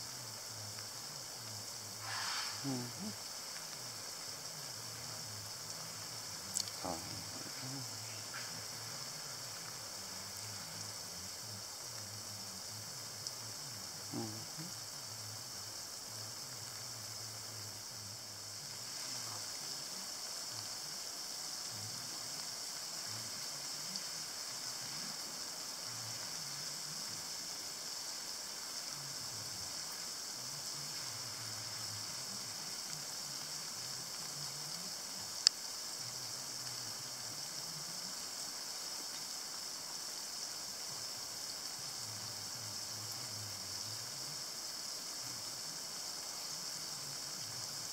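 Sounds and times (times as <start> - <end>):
lawn sprinkler spraying water: 0.0 - 47.9.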